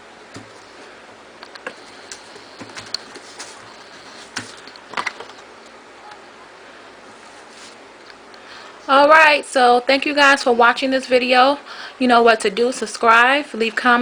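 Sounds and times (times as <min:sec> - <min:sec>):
steady faint hiss: 0:00.0 - 0:14.0.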